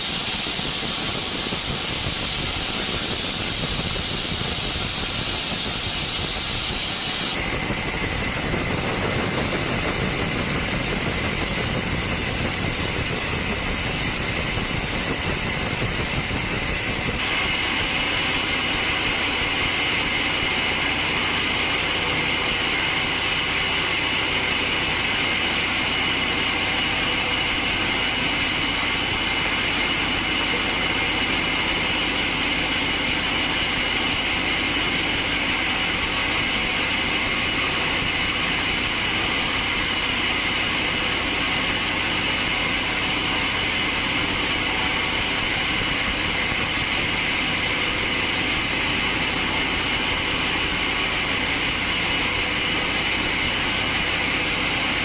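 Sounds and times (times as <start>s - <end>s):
machine running with high hiss: 0.0s - 55.0s.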